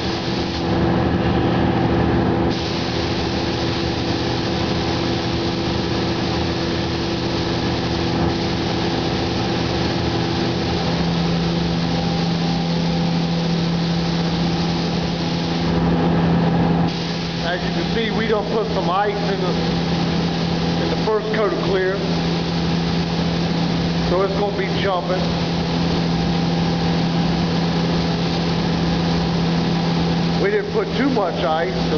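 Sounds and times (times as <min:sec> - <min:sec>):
hiss of air: 0:00.0 - 0:00.7, 0:02.5 - 0:15.8, 0:16.9 - 0:30.6
machinery hum: 0:00.0 - 0:31.9.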